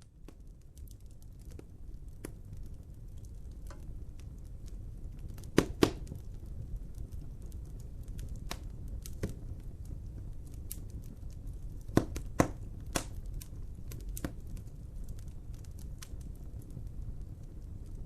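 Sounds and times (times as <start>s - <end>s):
fire crackles and pops: 0.0s - 18.0s
wood fire rumbling: 0.0s - 18.0s.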